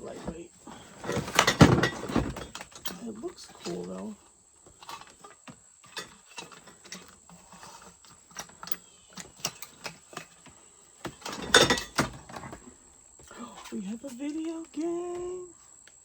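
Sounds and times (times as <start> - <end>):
items clattering: 0.0 - 15.5.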